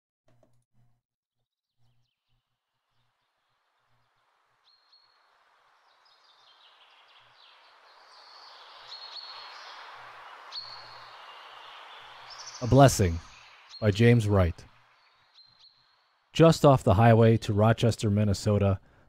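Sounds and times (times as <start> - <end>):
birds chirping: 1.8 - 18.7
steady hiss: 3.4 - 19.0.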